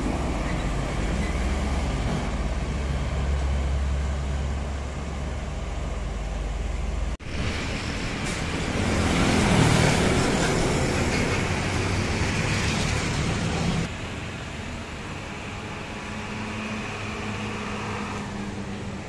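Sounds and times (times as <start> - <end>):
street traffic: 0.0 - 19.0
truck driving past: 0.0 - 19.0.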